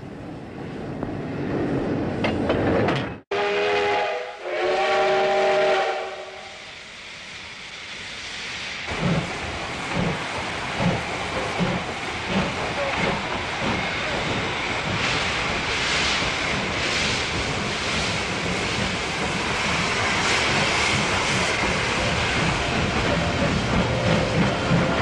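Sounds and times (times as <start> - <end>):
steam locomotive chuffing: 4.0 - 25.0.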